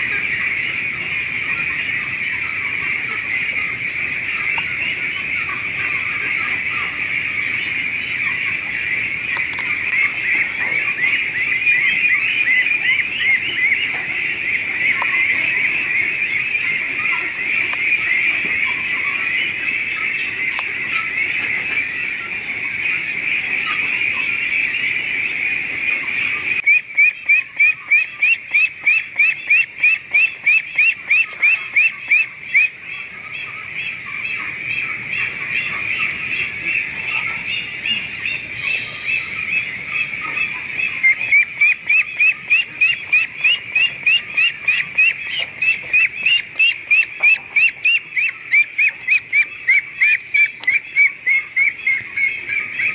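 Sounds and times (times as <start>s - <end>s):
chorus of ducklings peeping: 0.0s - 52.9s
duckling peeping loudly nearby: 0.0s - 52.9s.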